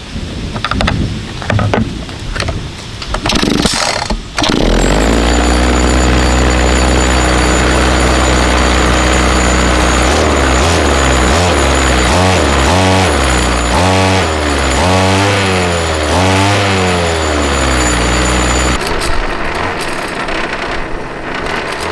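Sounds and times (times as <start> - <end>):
knocking and rattling: 0.5 - 21.9
lawn mower engine running: 3.2 - 21.9.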